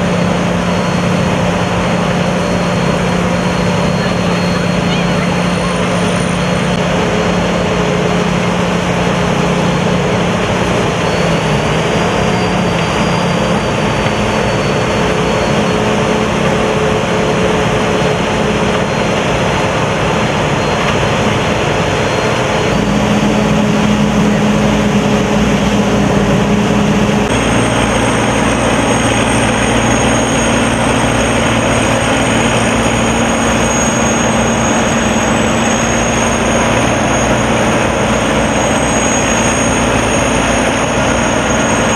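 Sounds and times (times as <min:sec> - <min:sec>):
combine harvester engine humming: 0:00.0 - 0:41.9
threshing machinery: 0:00.0 - 0:41.9.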